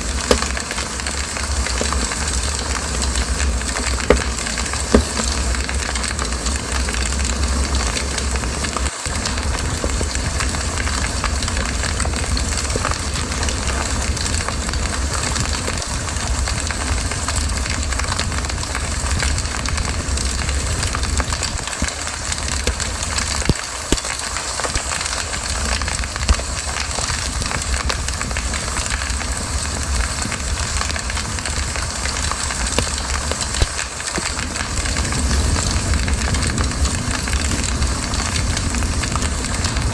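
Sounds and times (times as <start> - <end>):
campfire hissing: 0.0 - 39.9
fire crackling and popping: 0.0 - 39.9.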